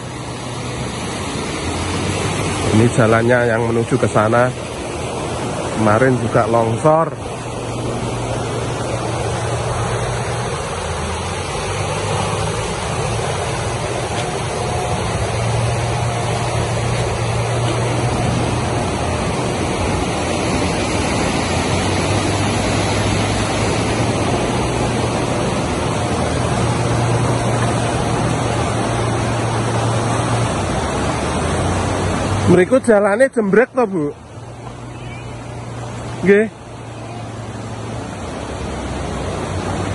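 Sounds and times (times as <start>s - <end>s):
fast-flowing river water: 0.0s - 39.9s.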